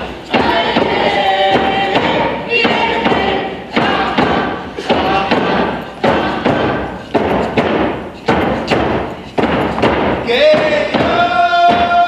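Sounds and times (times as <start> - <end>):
voices singing: 0.0 - 9.6, 10.2 - 12.0
hand drums beating: 0.0 - 12.0.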